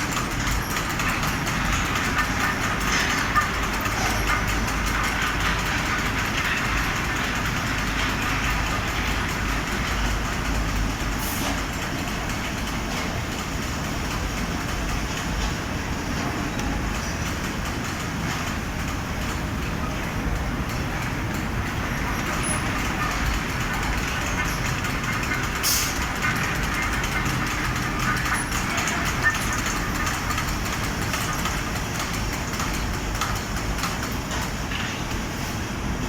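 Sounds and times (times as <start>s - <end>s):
fabric spreading machine running: 0.0s - 36.0s.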